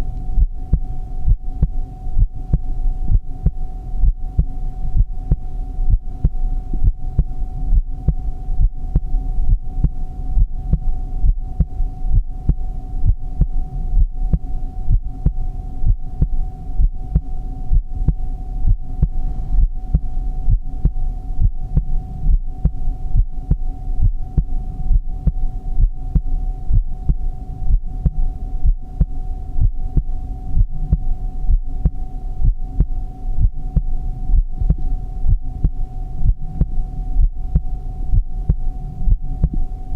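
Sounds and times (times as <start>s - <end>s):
continuous hum: 0.0s - 39.9s
heartbeat thumps: 0.0s - 39.9s.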